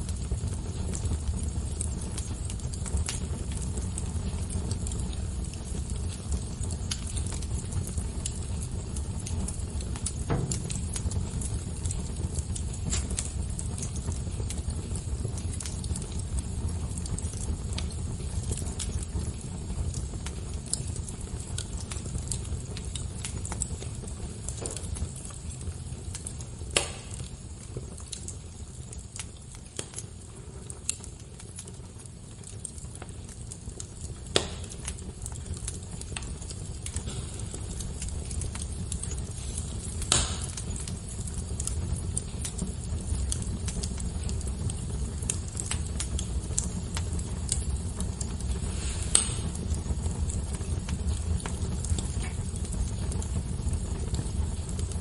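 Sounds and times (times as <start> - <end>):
fire crackling: 0.0 - 55.0
loud fire pops: 0.0 - 55.0.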